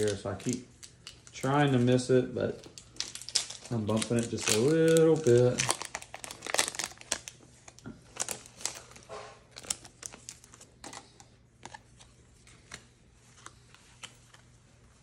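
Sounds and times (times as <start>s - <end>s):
trading cards and foil handled: 0.0s - 15.0s.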